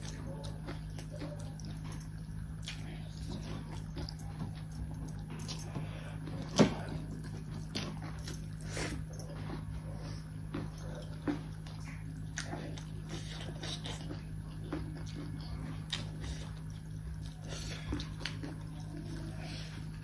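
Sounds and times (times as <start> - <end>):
chewing and mouth smacks: 0.0 - 20.0
steady low hum: 0.0 - 20.0.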